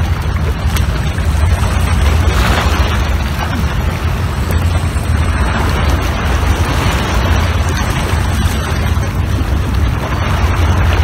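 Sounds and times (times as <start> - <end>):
steady low rumble: 0.0 - 11.0
waves washing against rocks: 0.0 - 11.0.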